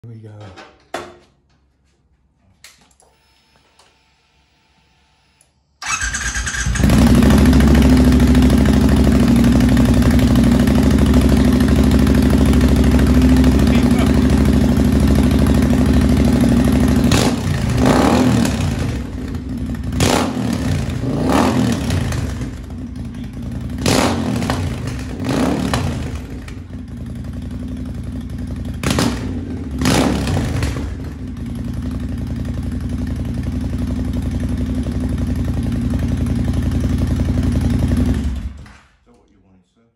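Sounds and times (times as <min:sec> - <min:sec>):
motorcycle engine idling and revving: 0:05.8 - 0:38.8.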